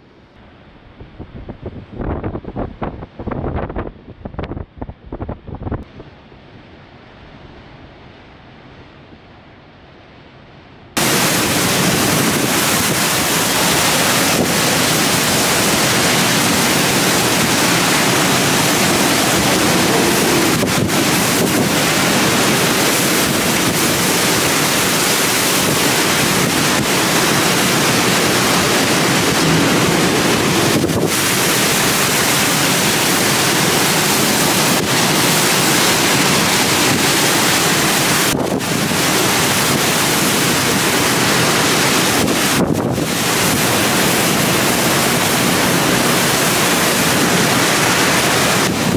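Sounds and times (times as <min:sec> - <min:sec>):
hurricane wind and driving rain: 0:00.0 - 0:10.3, 0:10.9 - 0:48.9
wind buffeting microphone: 0:00.8 - 0:06.2, 0:11.0 - 0:48.9.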